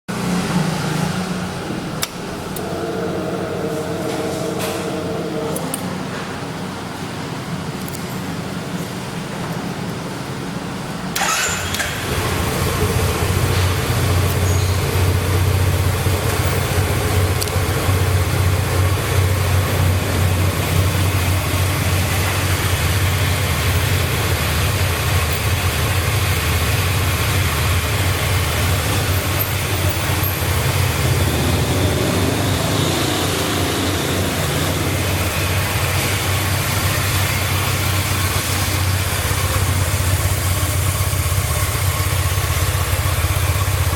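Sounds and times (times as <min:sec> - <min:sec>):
scooter engine idling: 0:00.2 - 0:43.9.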